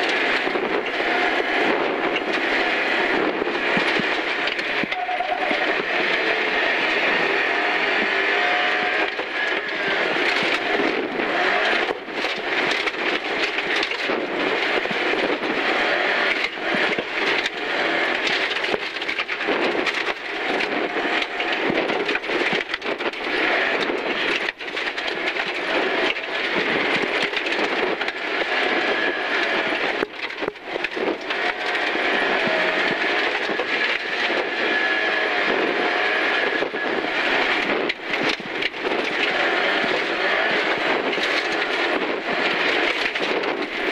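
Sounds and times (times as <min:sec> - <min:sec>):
knocks and rattles from car: 0:00.0 - 0:06.2, 0:07.4 - 0:43.9
rally car engine revving: 0:00.0 - 0:43.9
tyre and road noise: 0:00.0 - 0:43.9.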